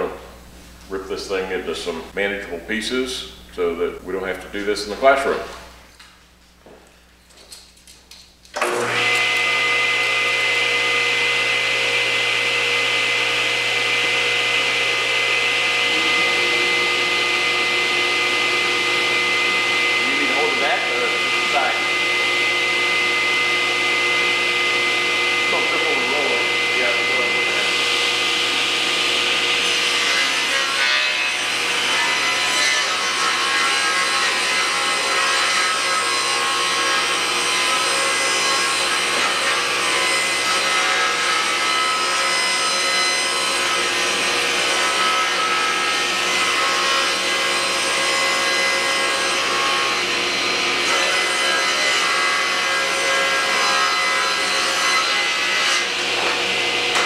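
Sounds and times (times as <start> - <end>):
table saw cutting board: 8.6 - 57.0.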